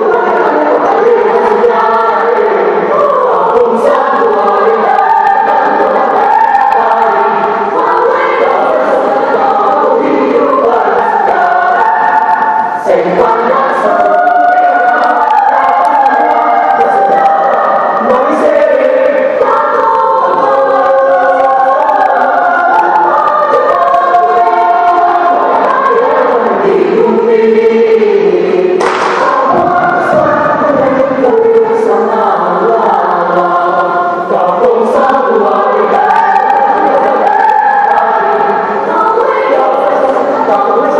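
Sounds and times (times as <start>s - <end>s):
choir singing held chords: 0.0s - 40.9s.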